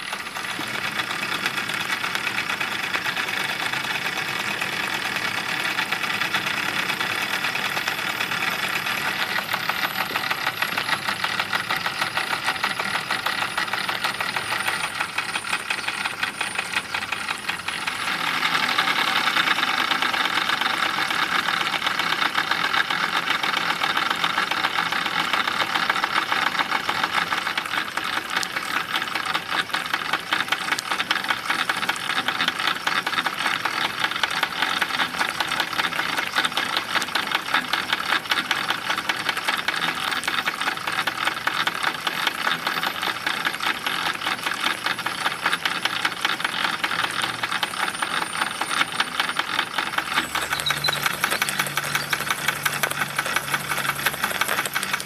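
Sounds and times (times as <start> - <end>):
steam engine ticking clatter: 0.0 - 55.0.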